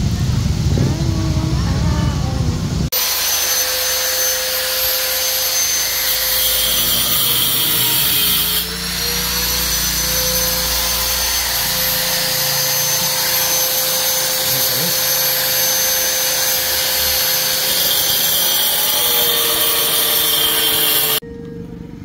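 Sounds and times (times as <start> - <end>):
small motor whining: 2.9 - 21.2.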